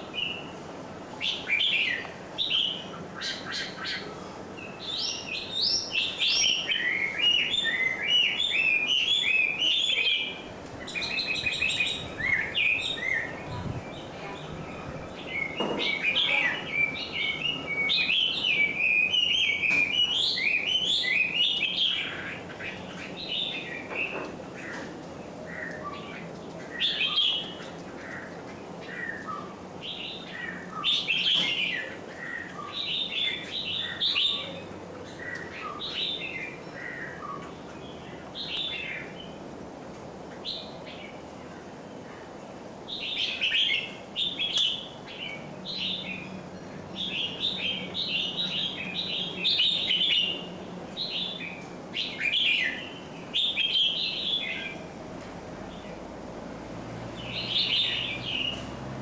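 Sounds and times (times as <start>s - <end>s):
small birds chirping: 0.0s - 39.5s, 40.2s - 56.1s, 57.1s - 58.8s.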